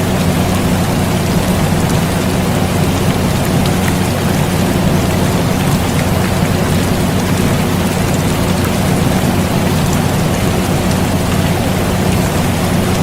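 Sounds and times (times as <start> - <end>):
air conditioner humming: 0.0 - 13.0
steady rain: 0.0 - 13.0.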